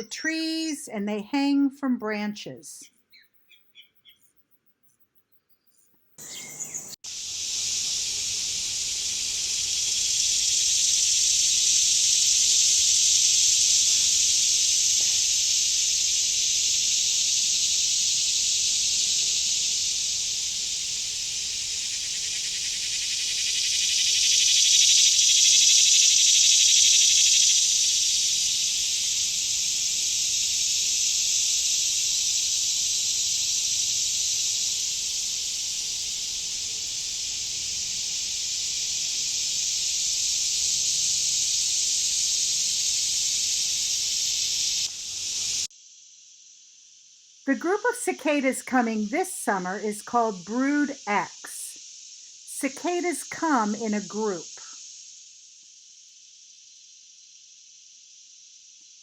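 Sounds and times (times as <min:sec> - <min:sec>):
cicadas singing: 0:00.0 - 0:59.0.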